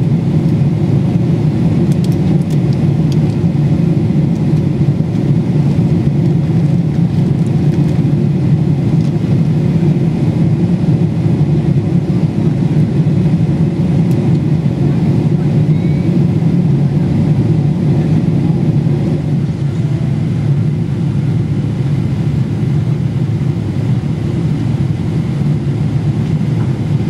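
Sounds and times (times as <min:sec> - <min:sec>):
deep rumble of jet engines: 0:00.0 - 0:27.0.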